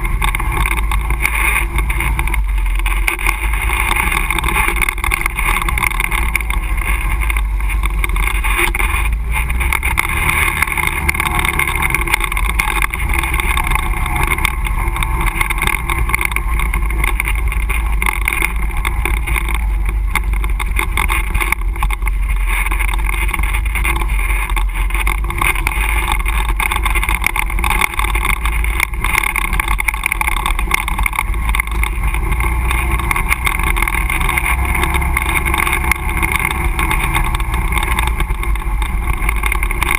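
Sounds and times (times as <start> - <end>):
quad engine running: 0.0 - 39.9.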